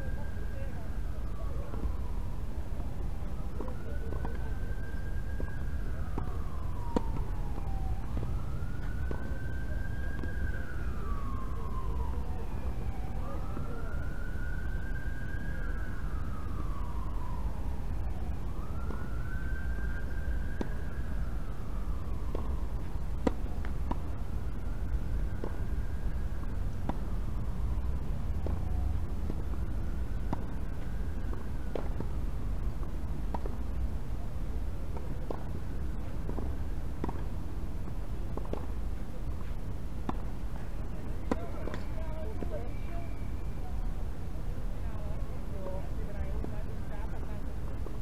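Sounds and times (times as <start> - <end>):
low background noise: 0.0 - 48.0
wailing emergency siren: 0.0 - 48.0.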